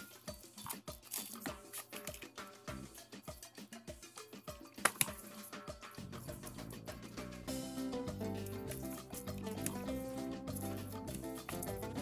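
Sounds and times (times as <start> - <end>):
music with percussive beat and bass: 0.0 - 12.0.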